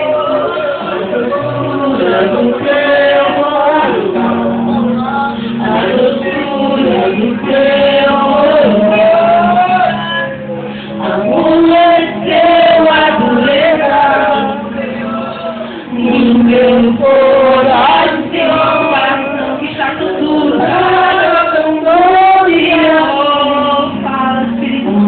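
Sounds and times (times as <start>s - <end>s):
voices singing: 0.0s - 25.0s
woman singing into microphone: 0.0s - 25.0s.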